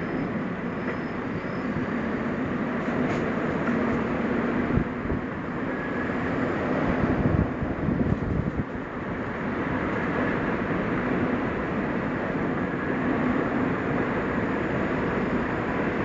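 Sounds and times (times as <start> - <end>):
tyre and road noise: 0.0 - 16.0.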